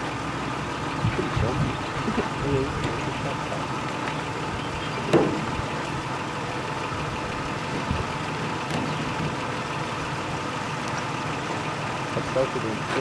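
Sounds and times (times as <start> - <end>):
vehicle on gravel road: 0.0 - 13.0.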